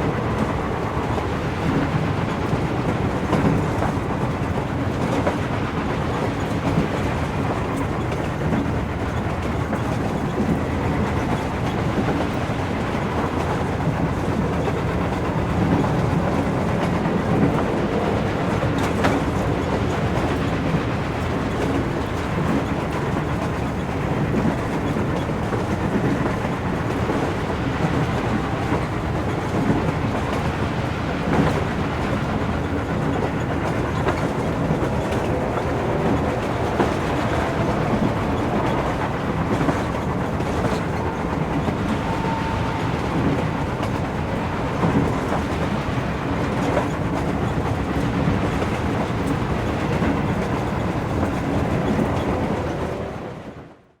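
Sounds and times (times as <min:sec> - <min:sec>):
faint rail clicks: 0:00.0 - 0:53.4
train rumbling on rails: 0:00.0 - 0:54.0.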